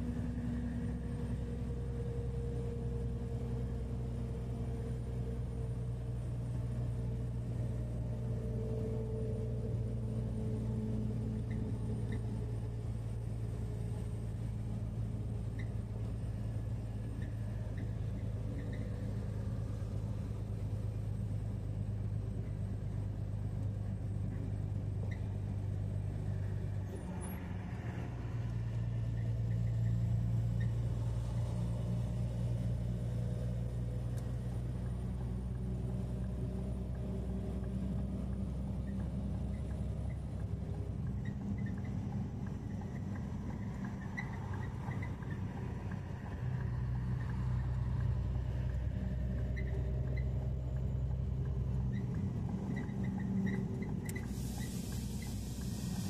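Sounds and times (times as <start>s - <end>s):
road noise: 0.0s - 56.0s
truck engine droning: 0.0s - 56.0s.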